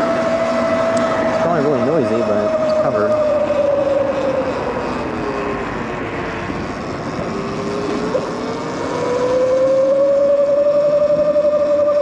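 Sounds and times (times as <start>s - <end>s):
electric motor whining: 0.0s - 12.0s
steady rushing noise: 0.0s - 12.0s.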